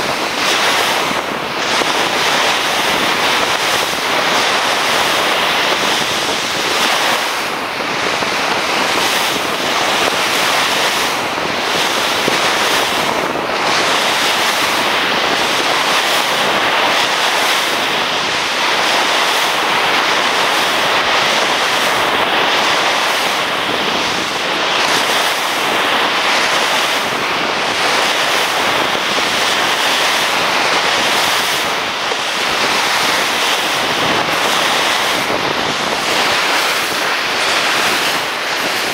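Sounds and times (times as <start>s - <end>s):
ocean surf breaking: 0.0s - 38.9s
wind on microphone: 0.0s - 38.9s.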